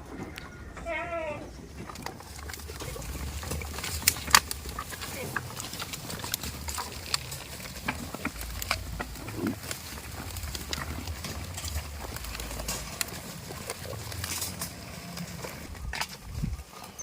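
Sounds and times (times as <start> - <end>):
goats moving about: 0.0 - 17.0
low steady rumble: 0.8 - 16.7.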